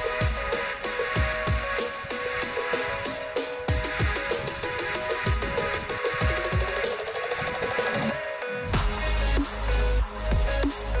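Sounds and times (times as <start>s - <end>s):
electronic music with held tones: 0.0s - 11.0s.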